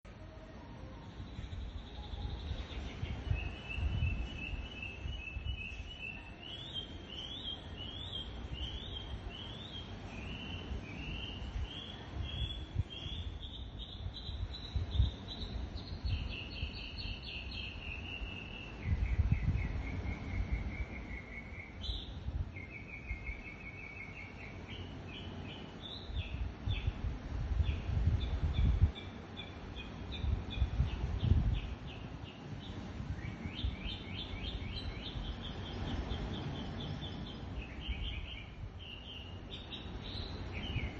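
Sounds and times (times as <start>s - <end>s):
songbird singing: 0.1s - 40.9s.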